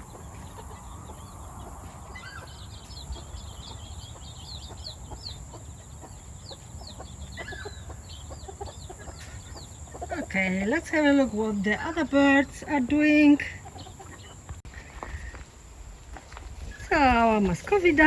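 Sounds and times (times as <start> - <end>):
chickens clucking and chirping: 0.0 - 18.0.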